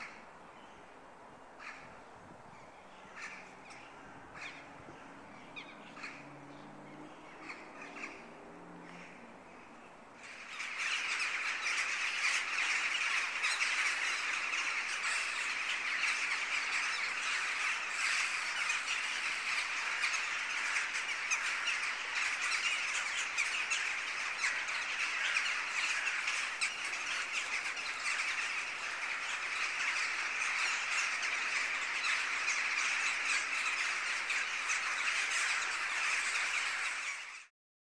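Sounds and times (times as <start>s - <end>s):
crows cawing: 1.6s - 2.0s, 3.0s - 6.4s, 7.2s - 9.3s, 10.2s - 37.5s.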